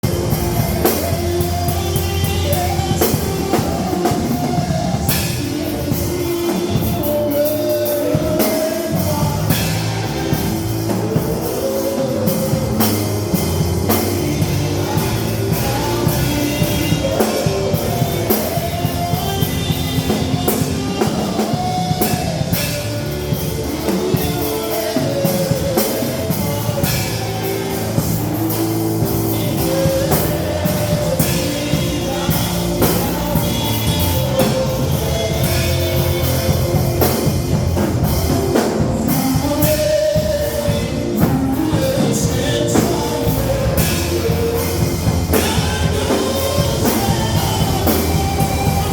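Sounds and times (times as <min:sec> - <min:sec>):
drum kit beat: 0:00.0 - 0:48.9
sung melody: 0:00.0 - 0:48.9
worship band music: 0:00.0 - 0:48.9.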